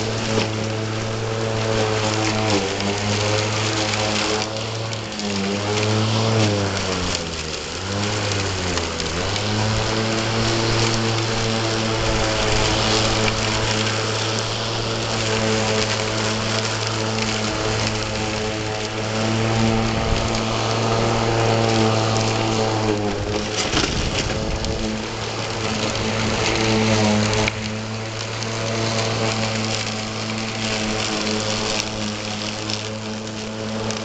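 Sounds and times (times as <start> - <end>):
electric lawnmower motor humming: 0.0 - 34.0.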